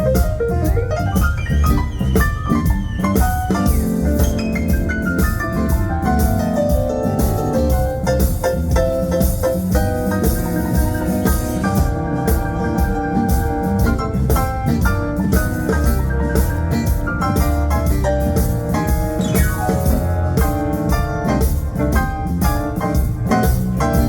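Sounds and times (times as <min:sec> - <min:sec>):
bass: 0:00.0 - 0:24.0
drums: 0:00.0 - 0:24.0
melodic lead line: 0:00.0 - 0:24.0.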